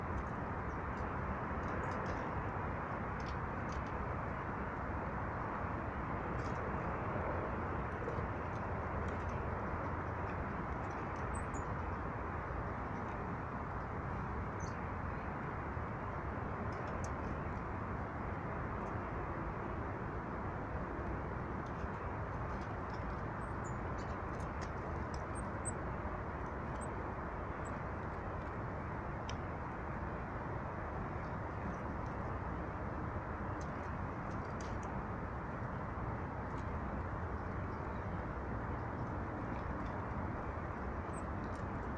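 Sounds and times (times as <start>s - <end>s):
low rushing background noise: 0.0s - 41.9s.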